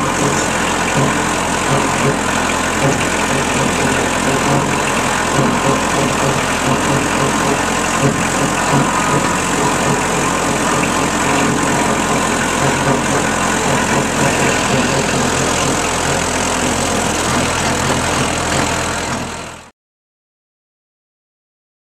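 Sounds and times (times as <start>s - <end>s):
tractor diesel engine running: 0.0s - 19.7s.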